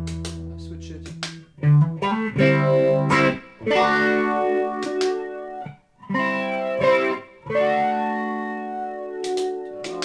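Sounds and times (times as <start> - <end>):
electric guitar chords ringing: 1.5 - 10.0.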